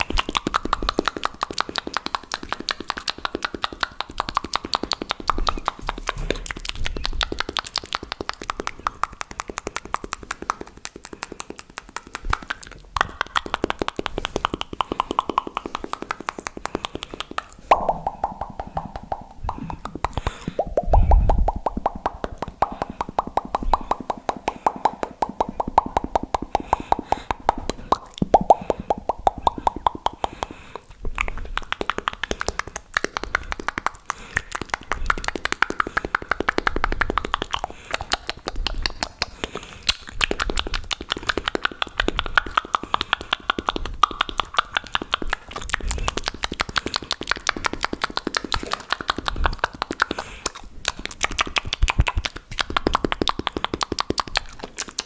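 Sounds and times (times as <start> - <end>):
wet mouth clicks and pops: 0.0 - 55.0.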